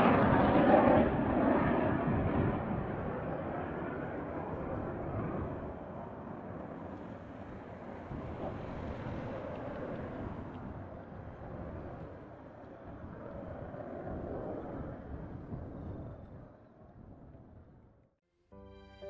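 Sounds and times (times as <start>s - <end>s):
distant jet engine rumble: 0.0s - 17.9s.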